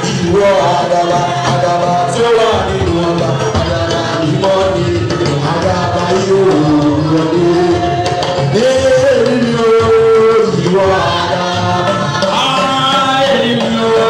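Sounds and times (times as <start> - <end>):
church worship singing: 0.0 - 14.0.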